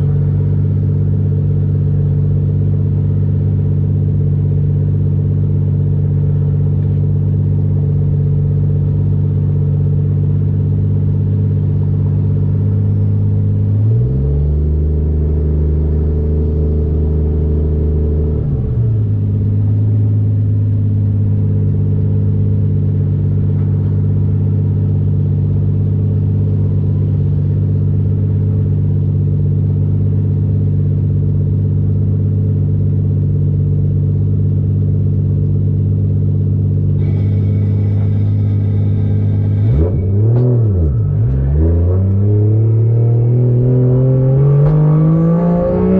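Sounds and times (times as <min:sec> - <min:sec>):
car engine running: 0:00.0 - 0:45.9.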